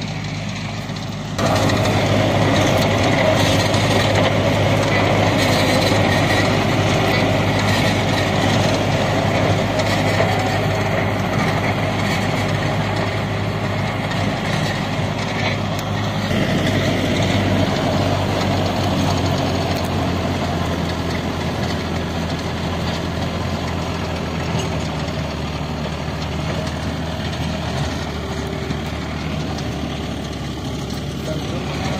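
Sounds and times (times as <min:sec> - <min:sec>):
seeder rotor clatter: 0:00.0 - 0:31.9
tractor diesel engine drone: 0:00.0 - 0:31.9.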